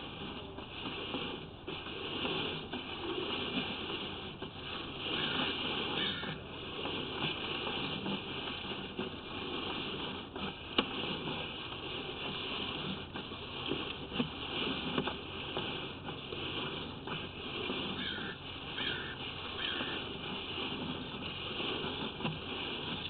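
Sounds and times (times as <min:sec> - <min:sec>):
cable pushing hiss: 0:00.0 - 0:23.0.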